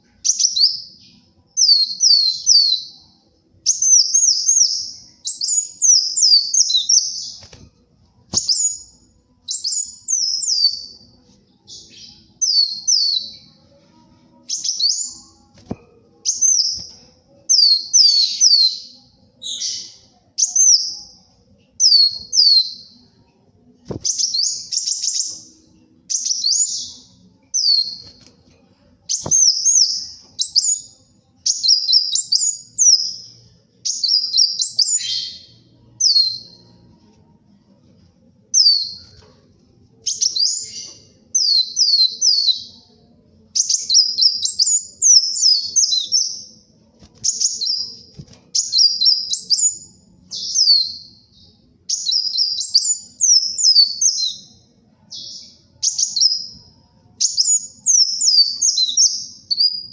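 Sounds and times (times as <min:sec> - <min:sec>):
bird twittering song: 0:00.0 - 0:07.7, 0:08.3 - 0:13.8, 0:14.4 - 0:23.2, 0:23.9 - 0:28.5, 0:29.1 - 0:36.9, 0:38.5 - 0:39.3, 0:40.0 - 0:59.9.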